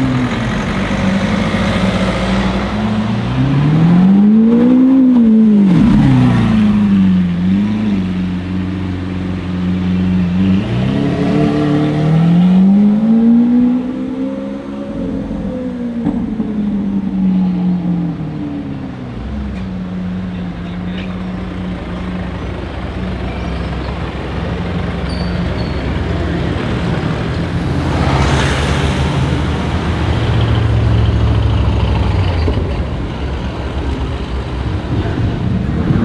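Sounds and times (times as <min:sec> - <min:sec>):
car engines idling: 0:00.0 - 0:10.8, 0:14.6 - 0:36.0.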